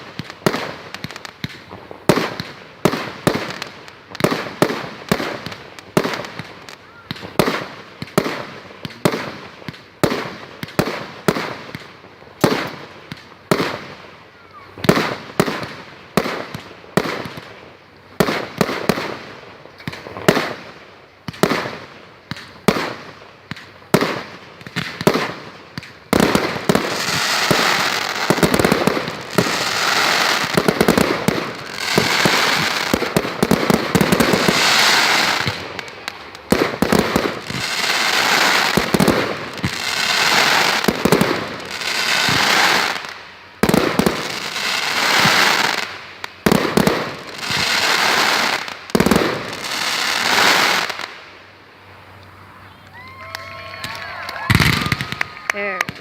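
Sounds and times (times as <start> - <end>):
fireworks banging: 0.0 - 17.5, 18.1 - 51.2, 52.6 - 56.0
fireworks crackling: 0.0 - 56.0.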